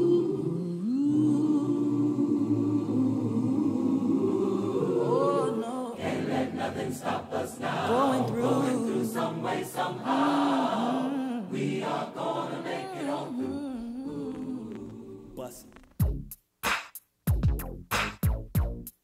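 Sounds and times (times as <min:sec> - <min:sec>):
gospel vocal ensemble singing: 0:00.0 - 0:15.8.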